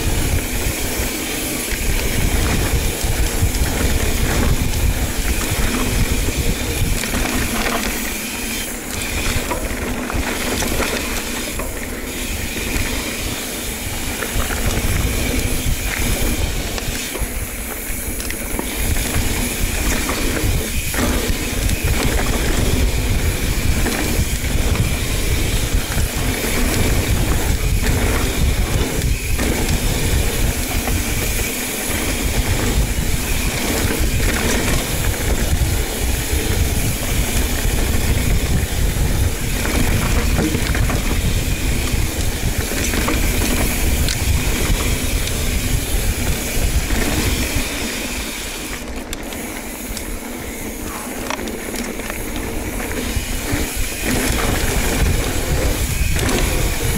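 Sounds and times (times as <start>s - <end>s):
mountain bike rattling: 0.0s - 56.9s
wind rushing over microphone: 0.0s - 56.9s.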